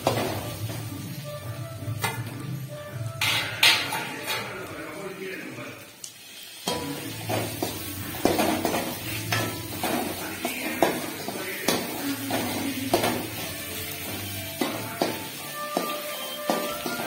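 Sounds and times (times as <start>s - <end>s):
metal ladle scraping a pan: 0.0s - 5.0s, 6.6s - 17.0s
food frying in oil: 0.0s - 17.0s.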